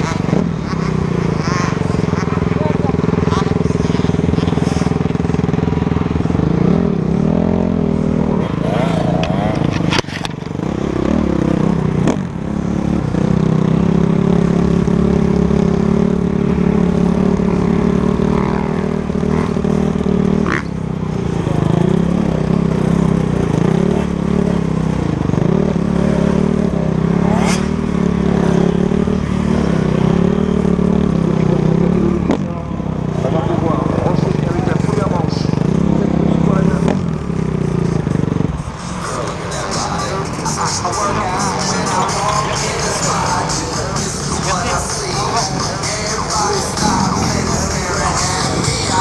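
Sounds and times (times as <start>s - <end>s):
motocross bike engine revving: 0.0s - 49.0s.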